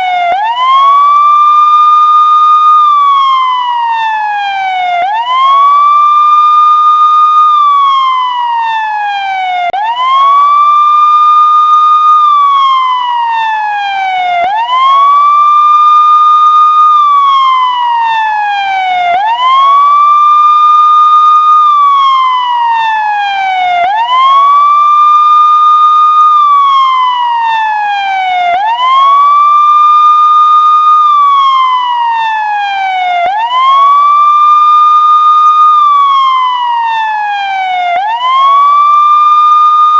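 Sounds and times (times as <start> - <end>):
siren slow wail: 0.0 - 39.9.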